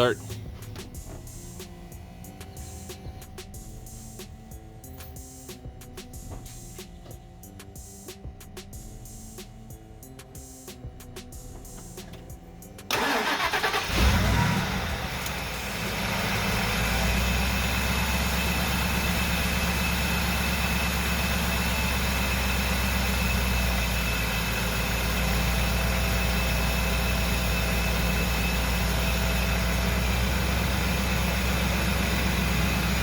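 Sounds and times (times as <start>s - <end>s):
truck engine starting and idling: 0.0s - 7.5s, 10.1s - 33.0s.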